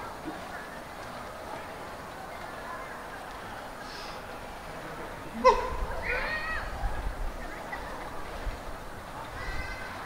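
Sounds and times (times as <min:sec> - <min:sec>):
distant indistinct voices: 0:00.0 - 0:10.0.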